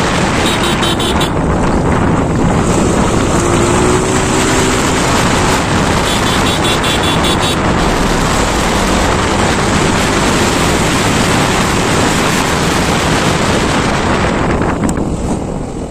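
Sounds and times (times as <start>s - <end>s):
wind rushing over microphone: 0.0s - 15.9s
motorcycle engine running: 0.4s - 14.5s.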